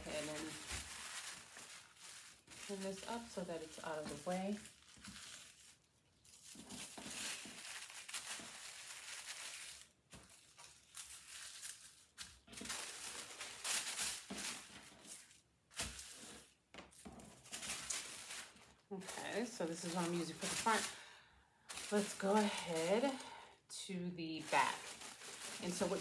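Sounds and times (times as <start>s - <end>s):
paper rustling and crinkling: 0.0s - 21.1s, 21.7s - 23.4s, 24.4s - 26.0s.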